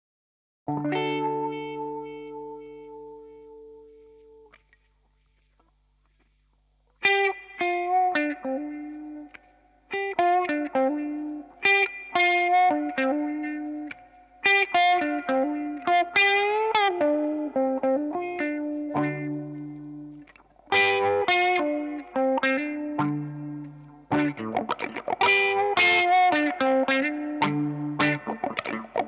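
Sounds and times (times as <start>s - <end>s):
electric guitar through wah pedal: 0.7s - 4.6s, 7.0s - 29.0s.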